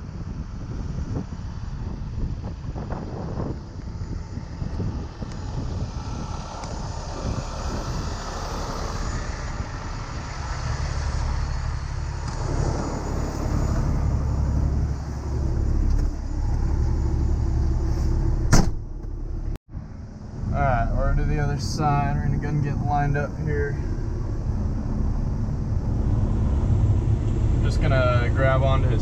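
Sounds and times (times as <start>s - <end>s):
truck engine rumbling: 0.0s - 29.0s.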